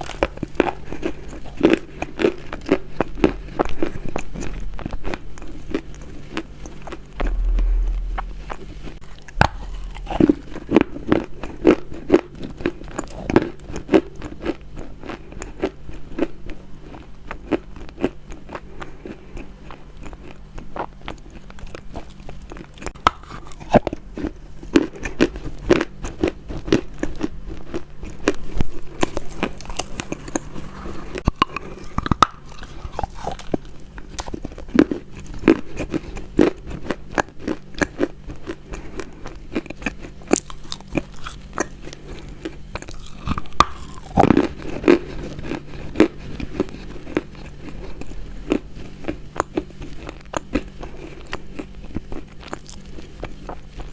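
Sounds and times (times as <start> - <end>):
chewing crunchy food: 0.0 - 53.9
faint low hum: 0.0 - 53.9.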